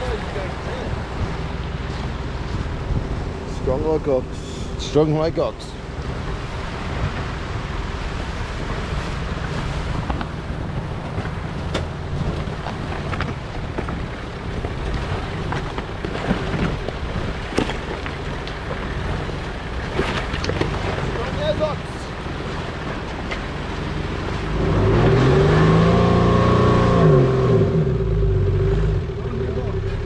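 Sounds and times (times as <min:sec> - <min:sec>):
wind buffeting microphone: 0:00.0 - 0:27.7
vehicle engine running low: 0:00.0 - 0:30.0.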